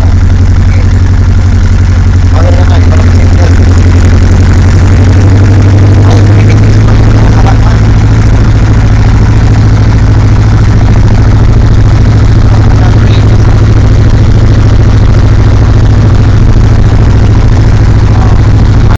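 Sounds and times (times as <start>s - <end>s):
propeller plane engine droning: 0.0s - 18.9s.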